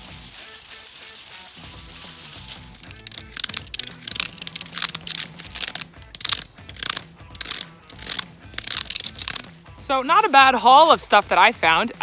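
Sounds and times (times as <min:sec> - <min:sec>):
background music: 0:00.0 - 0:12.0
rhythmic crunching: 0:00.0 - 0:12.0.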